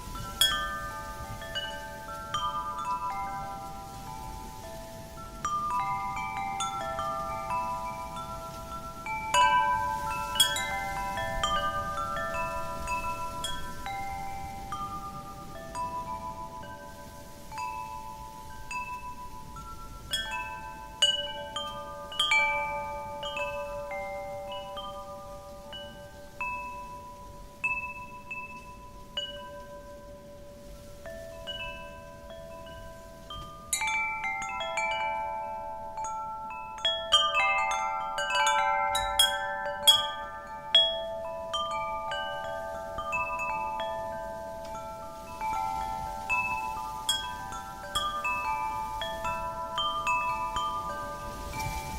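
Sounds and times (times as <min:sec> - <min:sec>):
soft wind hiss: 0:00.0 - 0:51.9
wind chimes ringing: 0:00.0 - 0:51.9.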